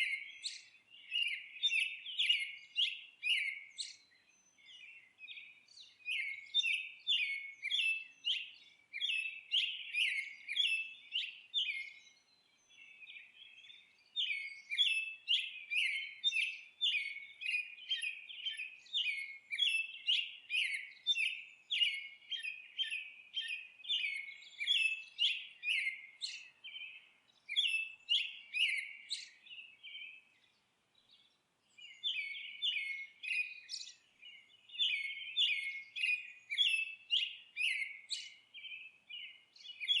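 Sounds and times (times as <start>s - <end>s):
songbird twittering: 0.0s - 40.0s.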